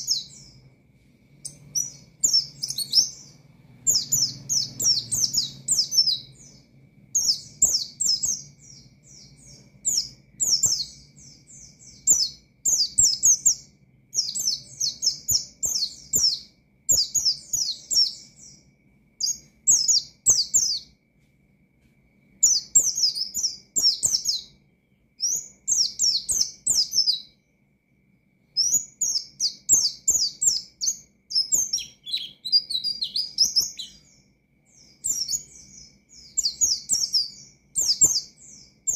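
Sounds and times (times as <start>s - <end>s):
bird high chirping song: 0.0s - 21.0s, 21.8s - 27.6s, 28.4s - 38.9s.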